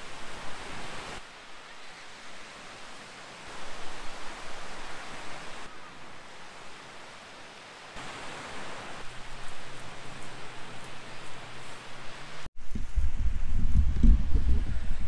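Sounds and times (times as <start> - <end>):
water rushing: 0.0 - 12.5.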